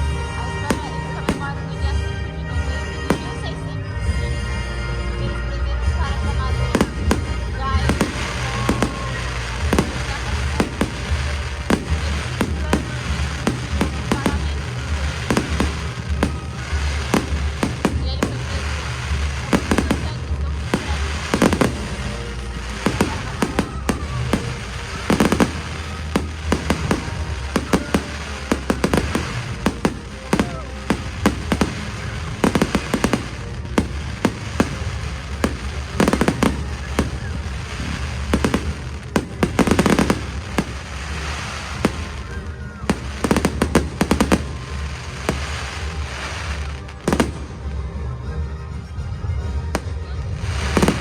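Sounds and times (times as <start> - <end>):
fireworks bangs: 0.0 - 4.7, 5.7 - 48.3, 49.6 - 51.0.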